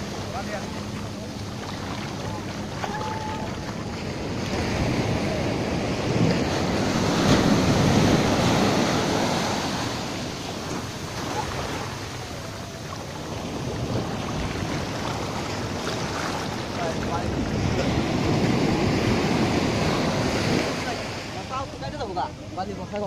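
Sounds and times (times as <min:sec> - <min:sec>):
waves washing over sand: 0:00.0 - 0:23.0.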